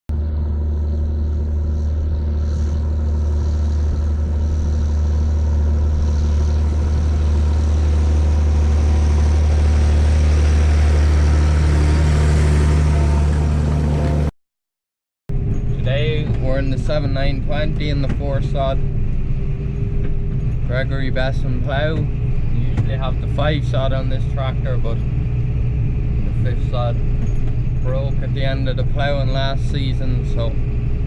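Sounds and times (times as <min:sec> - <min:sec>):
tractor diesel engine running: 0:00.1 - 0:14.3, 0:15.3 - 0:31.0.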